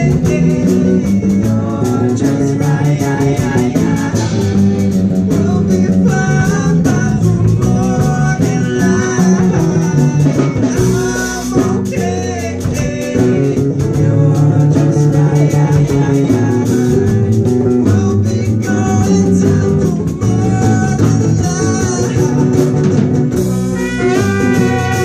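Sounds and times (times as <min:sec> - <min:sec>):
bass guitar: 0:00.0 - 0:25.0
bluesy live band guitar: 0:00.0 - 0:25.0.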